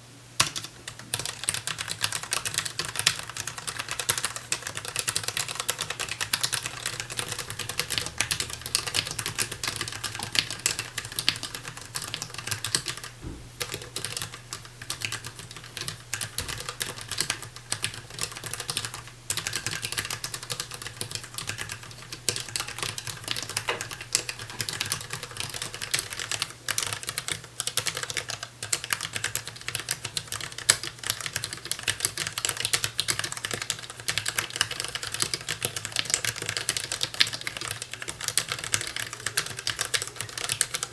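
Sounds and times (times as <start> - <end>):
mechanical keyboard typing: 0.4 - 40.9.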